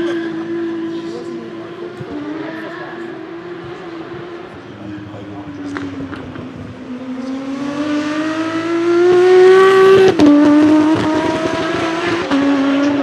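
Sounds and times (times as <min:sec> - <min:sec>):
car engine accelerating past: 0:00.0 - 0:13.0.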